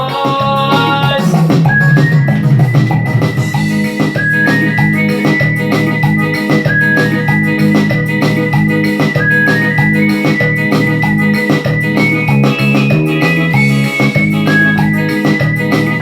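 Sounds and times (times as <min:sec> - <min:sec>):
organ-toned synthesizer melody: 0:00.0 - 0:16.0
steady beat: 0:00.0 - 0:16.0
sustained keyboard chords: 0:00.0 - 0:16.0.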